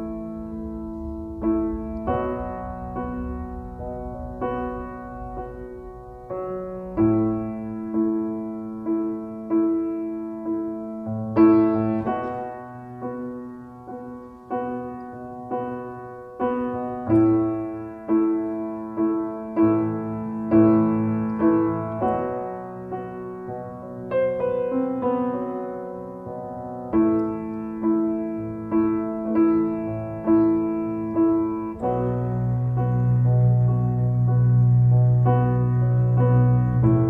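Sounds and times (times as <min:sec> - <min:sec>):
slow piano music: 0:00.0 - 0:37.0.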